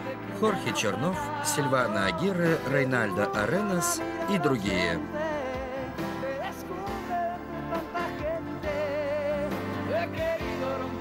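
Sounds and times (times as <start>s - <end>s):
instrumental backing: 0.0s - 11.0s.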